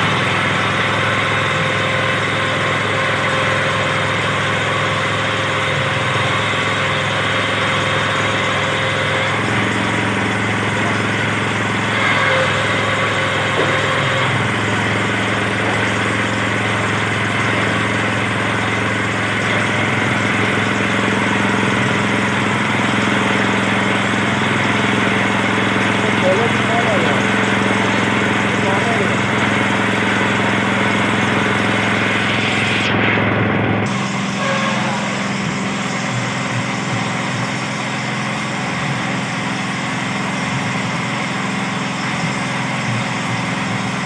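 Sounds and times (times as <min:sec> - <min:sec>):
small engine running steadily: 0:00.0 - 0:44.0.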